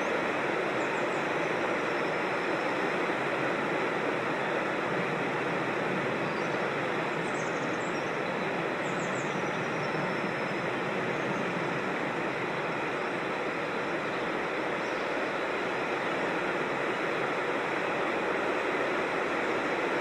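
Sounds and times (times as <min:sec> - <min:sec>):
rushing stream water: 0:00.0 - 0:20.0.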